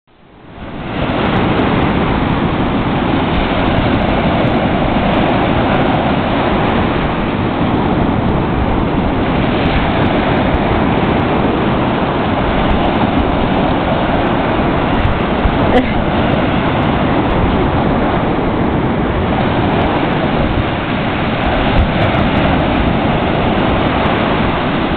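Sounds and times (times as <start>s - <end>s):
ocean surf breaking: 0.2s - 24.9s
wind buffeting microphone: 0.2s - 24.9s.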